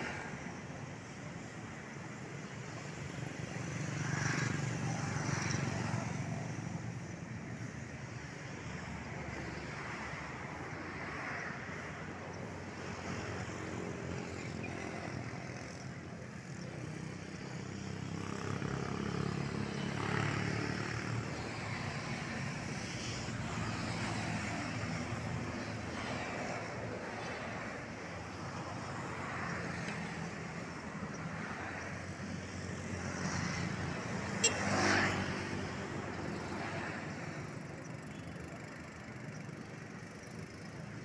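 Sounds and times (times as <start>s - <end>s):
car engines passing: 0.0s - 41.0s
motorcycle engines passing: 0.0s - 41.0s.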